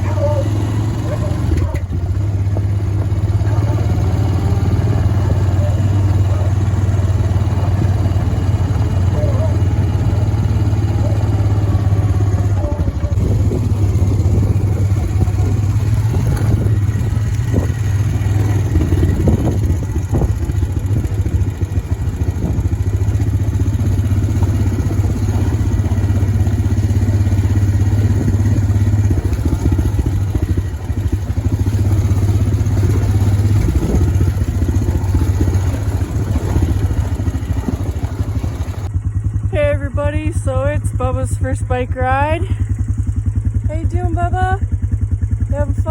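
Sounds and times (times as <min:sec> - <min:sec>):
quad engine running: 0:00.0 - 0:45.9.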